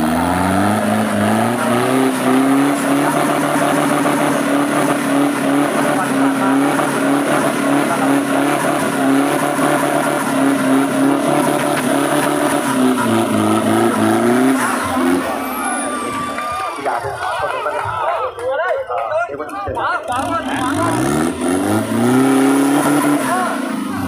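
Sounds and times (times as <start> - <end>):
diesel engine at high revs: 0.0 - 17.6, 19.8 - 24.0
tyres churning in mud: 0.0 - 19.0, 19.8 - 24.0.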